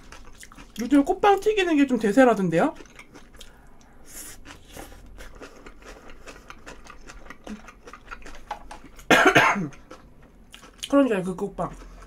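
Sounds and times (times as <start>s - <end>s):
chewing with wet mouth clicks: 0.0s - 9.1s, 9.7s - 12.0s.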